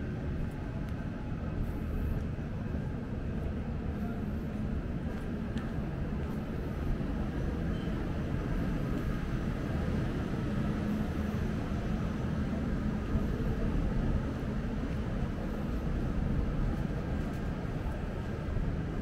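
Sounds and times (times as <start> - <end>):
city rumble: 0.0 - 19.0.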